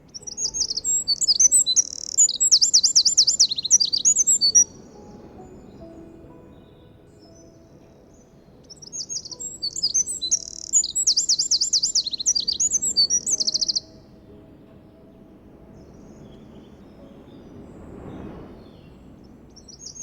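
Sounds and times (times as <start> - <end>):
wren singing trills: 0.0 - 20.0.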